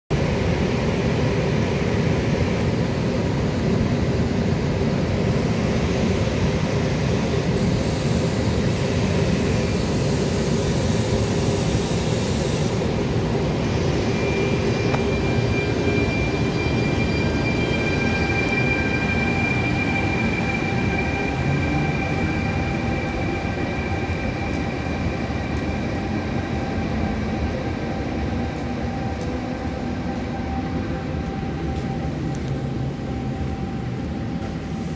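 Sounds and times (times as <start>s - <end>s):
electric train low rumble: 0.1s - 34.9s
high steady whine: 0.2s - 34.9s.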